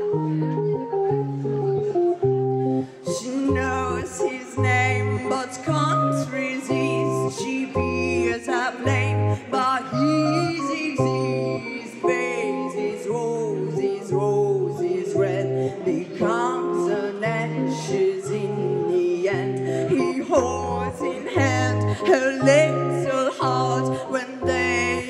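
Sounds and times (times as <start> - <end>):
electric keyboard bass and chords: 0.0 - 25.0
woman singing: 3.0 - 25.0.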